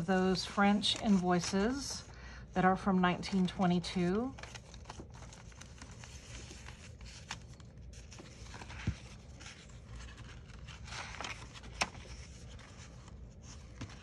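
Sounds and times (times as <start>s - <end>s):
paper pages rustling: 0.0s - 2.1s, 2.9s - 14.0s.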